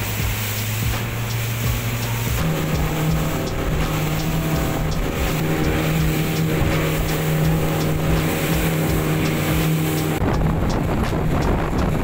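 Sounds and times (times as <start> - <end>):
motorboat engine humming: 0.0 - 12.0
water and wind rushing: 0.0 - 12.0.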